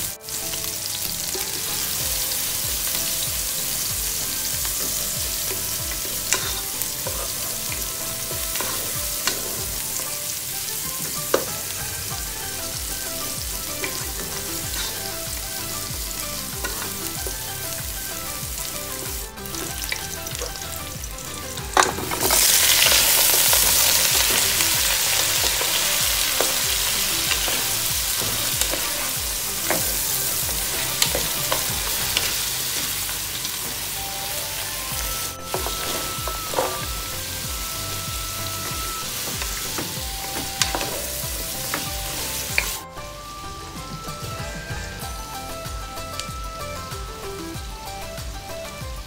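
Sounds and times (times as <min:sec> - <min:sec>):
onions sizzling in hot oil: 0:00.0 - 0:43.5
meat sizzling loudly: 0:00.0 - 0:48.1.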